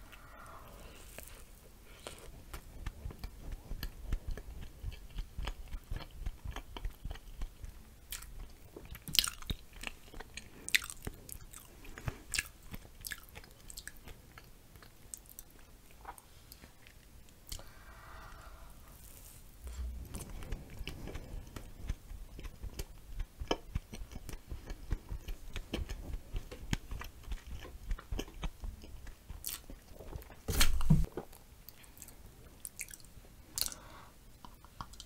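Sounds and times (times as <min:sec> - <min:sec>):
chewing donut: 0:00.1 - 0:17.6, 0:19.0 - 0:30.5, 0:31.7 - 0:33.8.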